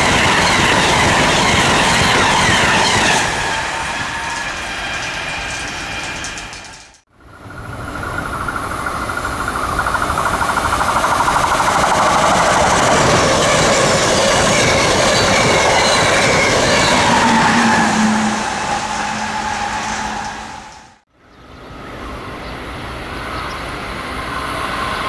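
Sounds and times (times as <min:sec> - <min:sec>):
train wheels rumbling on rails: 0:00.0 - 0:21.0, 0:21.8 - 0:25.0.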